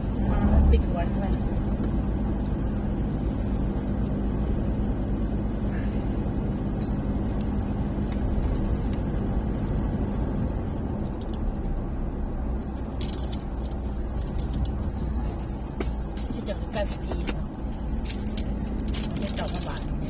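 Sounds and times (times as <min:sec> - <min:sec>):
constant low hum: 0:00.0 - 0:20.0
vehicle engine and road noise: 0:00.0 - 0:20.0.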